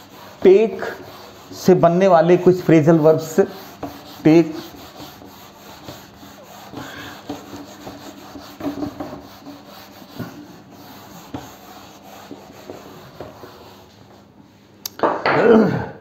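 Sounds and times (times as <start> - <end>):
eraser rubbing on whiteboard: 0.0 - 14.4.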